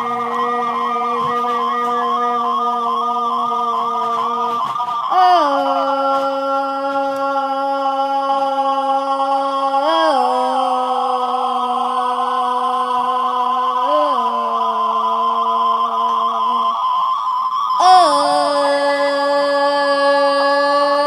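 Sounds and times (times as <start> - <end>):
person singing long note: 0.0 - 21.0.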